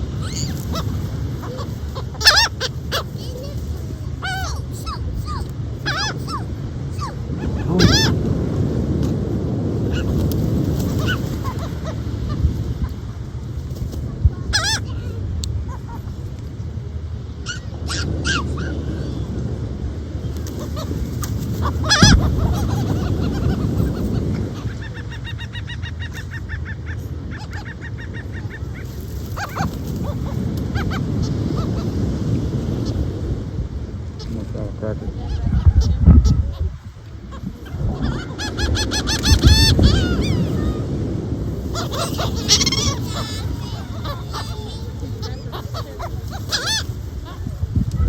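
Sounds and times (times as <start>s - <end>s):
seagulls squawking: 0.0s - 8.5s, 9.8s - 16.2s, 17.4s - 19.5s, 20.2s - 33.3s, 34.2s - 48.0s
wind and surf rushing: 0.0s - 48.0s.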